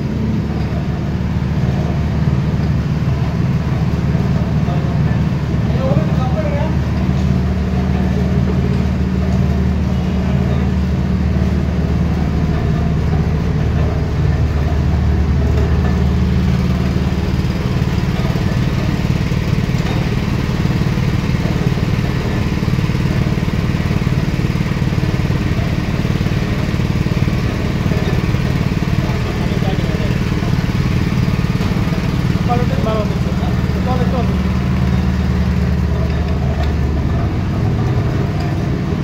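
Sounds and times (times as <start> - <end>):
small petrol engine running: 0.0 - 39.0.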